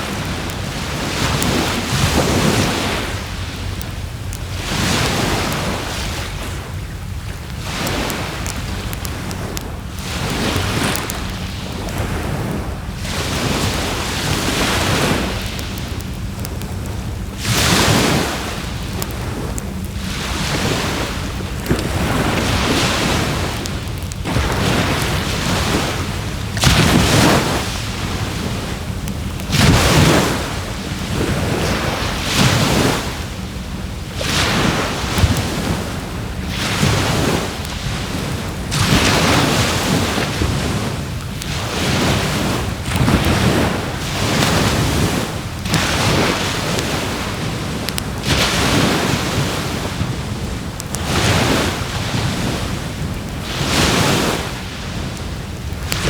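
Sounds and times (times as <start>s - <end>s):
campfire crackling: 0.0s - 56.0s
waves washing onto shore: 0.0s - 56.0s
wind rumble on microphone: 0.0s - 56.0s.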